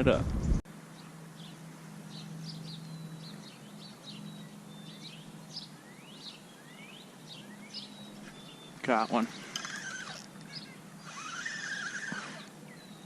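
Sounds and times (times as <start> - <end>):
steady low hum: 0.1 - 13.0
songbirds chirping and whistling: 0.4 - 13.0.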